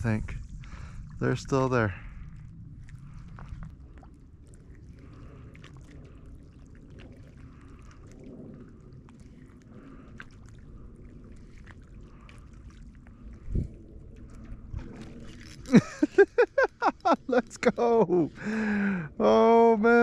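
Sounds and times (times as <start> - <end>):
low steady rumble: 0.0 - 20.0
water lapping at shoreline: 0.0 - 20.0.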